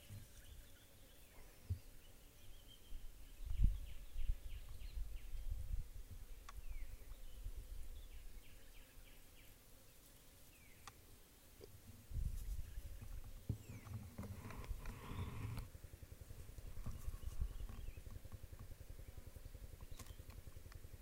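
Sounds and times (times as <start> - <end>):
low rumble on microphone: 0.0 - 9.2, 11.7 - 21.0
faint high chirping calls: 0.0 - 11.7, 12.3 - 15.7, 16.6 - 20.6.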